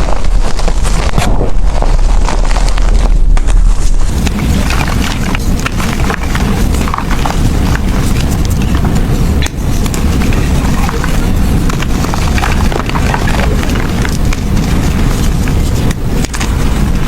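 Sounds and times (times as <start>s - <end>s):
heavy low rumble: 0.0s - 17.0s.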